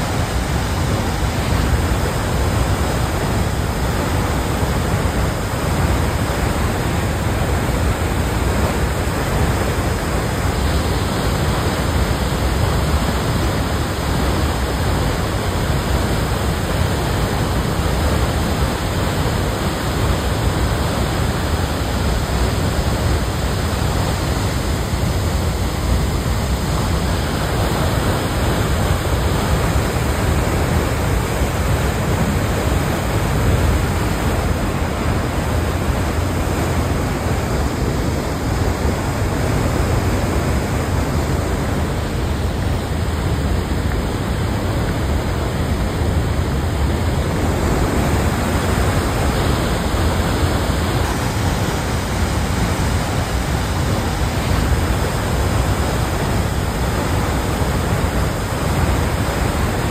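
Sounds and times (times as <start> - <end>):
mud and water rushing: 0.0 - 59.9.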